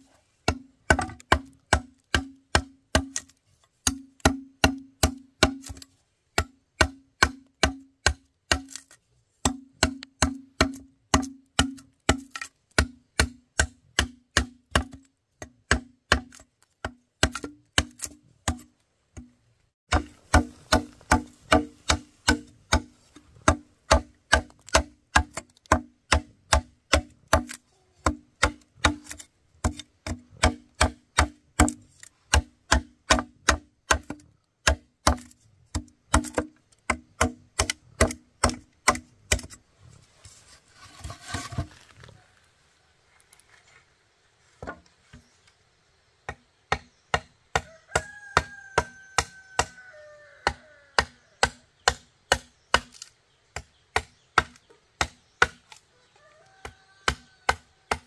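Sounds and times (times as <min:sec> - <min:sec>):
chopping strikes on bamboo: 0:00.4 - 0:19.3, 0:19.9 - 0:39.6, 0:46.3 - 0:55.8, 0:56.5 - 0:58.0.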